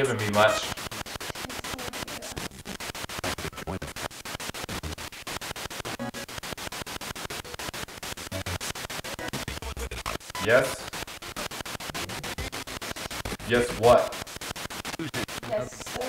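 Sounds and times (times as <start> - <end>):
choppy radio static: 0.0 - 16.0.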